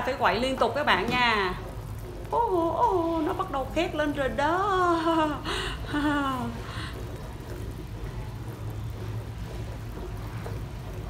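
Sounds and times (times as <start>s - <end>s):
metal ladle stirring: 0.0s - 4.8s, 6.4s - 11.0s
low steady hum: 0.0s - 11.0s
sugar syrup bubbling in pan: 0.0s - 11.0s.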